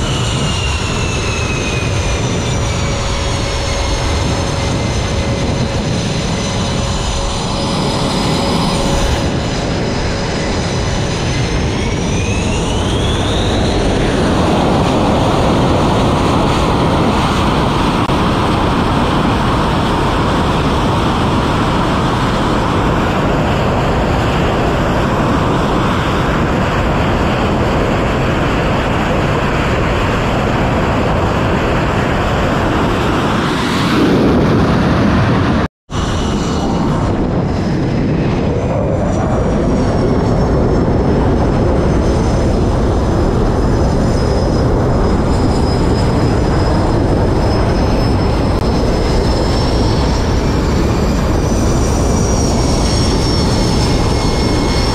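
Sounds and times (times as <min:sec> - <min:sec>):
jet engines whining: 0:00.0 - 0:54.9.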